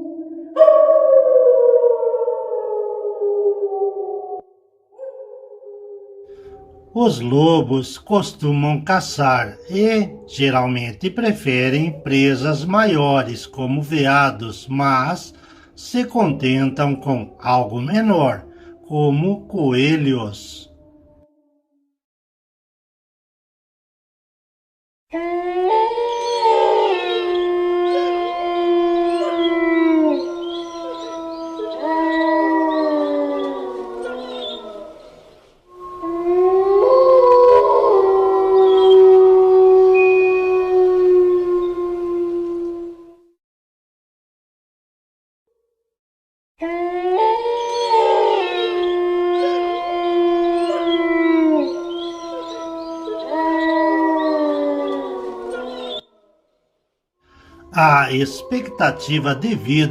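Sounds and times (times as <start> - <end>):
wolves howling in chorus: 0.0 - 4.4, 5.0 - 21.2, 25.1 - 43.2, 46.6 - 56.2, 57.5 - 59.9.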